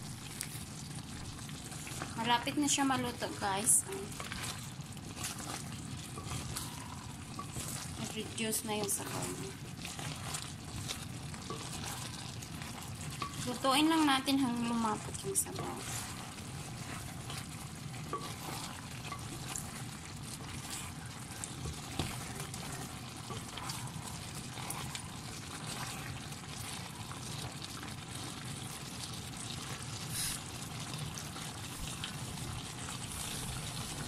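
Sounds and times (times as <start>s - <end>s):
sauce bubbling and sizzling in a pot: 0.0s - 34.0s.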